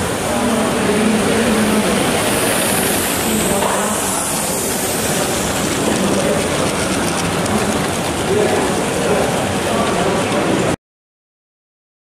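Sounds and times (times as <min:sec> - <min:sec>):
steam hissing: 0:00.0 - 0:10.7
wheels rolling on track: 0:00.1 - 0:10.8.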